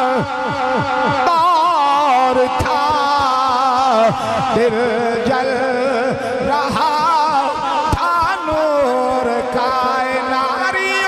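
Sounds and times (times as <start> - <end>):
man chanting devotional poetry: 0.0 - 11.0.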